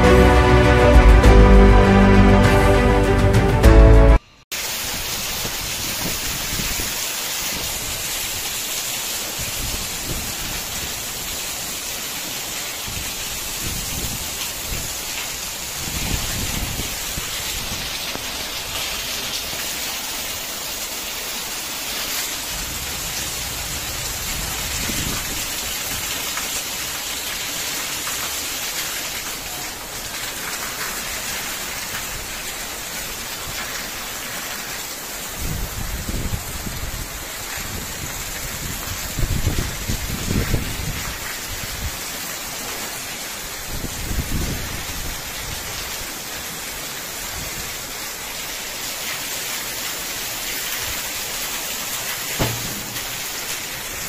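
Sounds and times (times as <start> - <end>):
heavy rain on roofs: 4.2 - 54.0.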